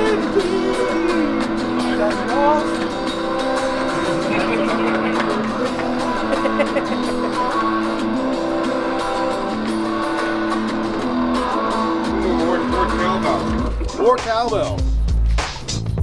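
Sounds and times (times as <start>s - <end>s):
electric guitar music: 0.0s - 15.8s.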